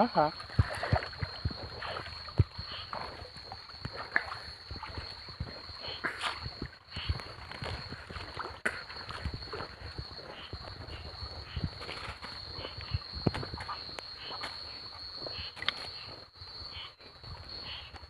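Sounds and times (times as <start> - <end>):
water splashing around wading person: 0.0 - 18.0.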